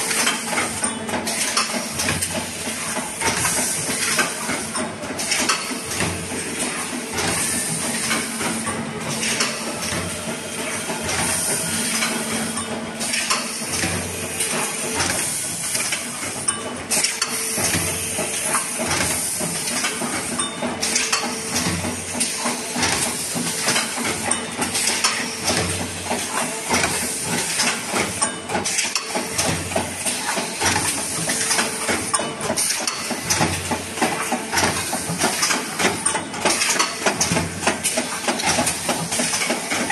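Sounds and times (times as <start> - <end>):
machines clicking and clattering: 0.0 - 39.9.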